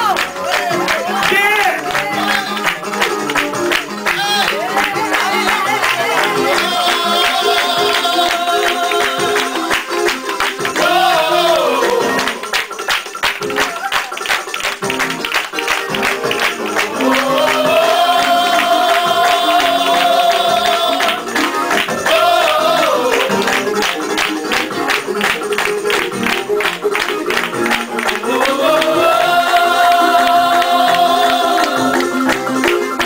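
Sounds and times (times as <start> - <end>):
upbeat church praise music: 0.0 - 33.0.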